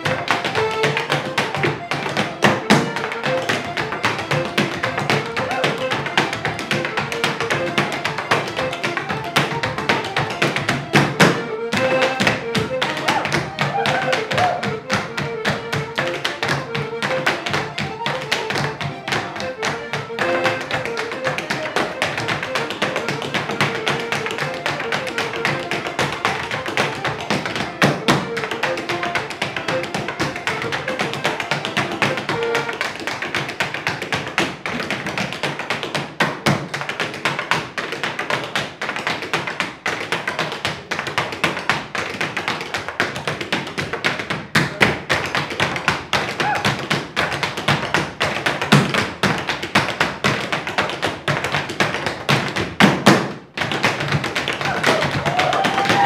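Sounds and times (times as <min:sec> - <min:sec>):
accordion dance tune: 0:00.0 - 0:56.0
hard shoes tapping and stamping: 0:00.0 - 0:56.0.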